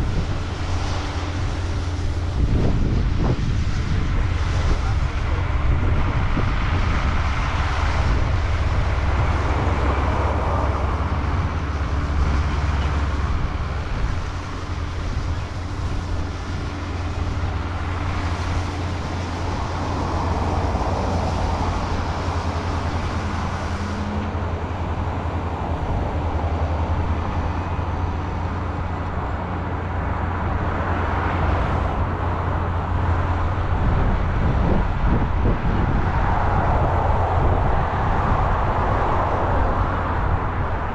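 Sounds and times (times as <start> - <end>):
low engine drone: 0.0 - 40.9
rushing noise: 0.0 - 40.9.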